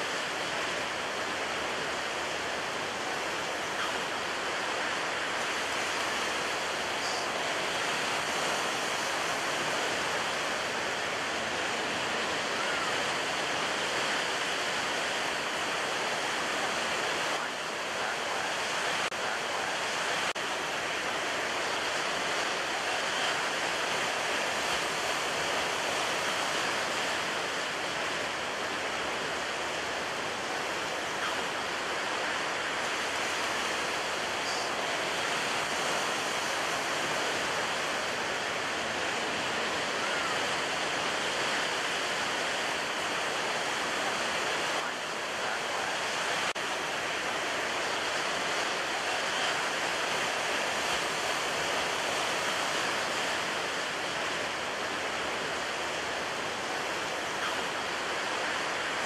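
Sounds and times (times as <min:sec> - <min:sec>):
ocean waves with brown noise: 0:00.0 - 0:59.0.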